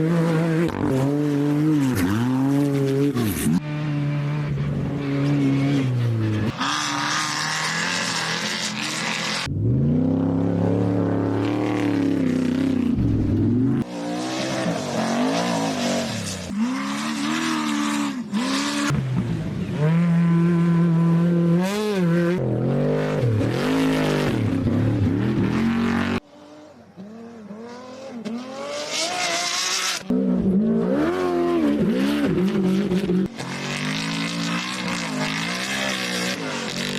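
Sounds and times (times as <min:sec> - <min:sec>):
race engines revving and passing: 0:00.0 - 0:36.9.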